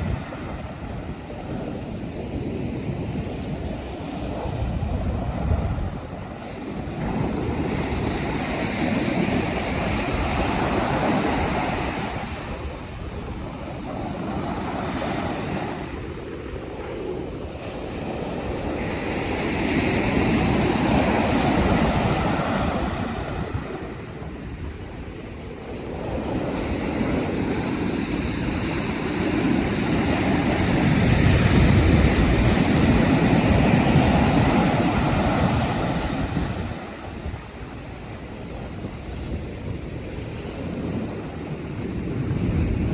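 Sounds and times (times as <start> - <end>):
waves breaking on shore: 0.0 - 42.9.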